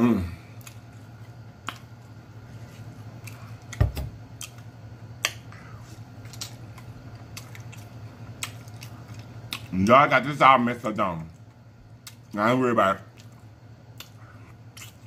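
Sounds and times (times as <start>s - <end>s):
steady low hum: 0.0s - 15.0s
man chewing food: 0.4s - 9.9s, 11.2s - 12.4s, 13.1s - 15.0s.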